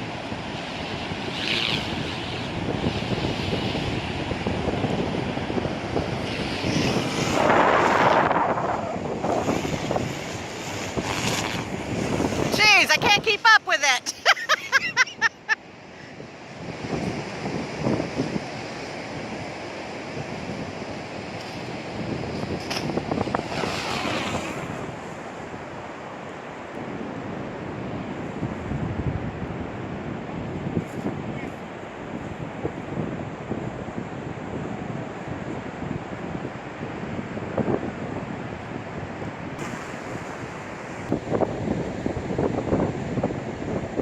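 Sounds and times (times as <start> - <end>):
ocean surf: 0.0 - 44.0
wind blowing across microphone: 0.0 - 44.0.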